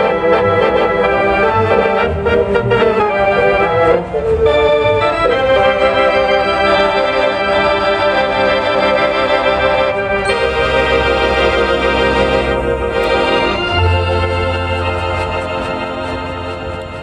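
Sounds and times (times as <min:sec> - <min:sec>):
theatre organ chords: 0:00.0 - 0:17.0.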